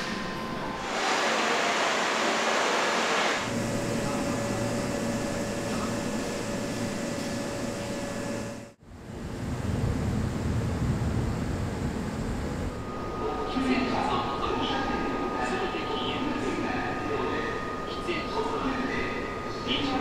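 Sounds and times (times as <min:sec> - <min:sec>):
stopped train equipment hum: 0:00.0 - 0:20.0.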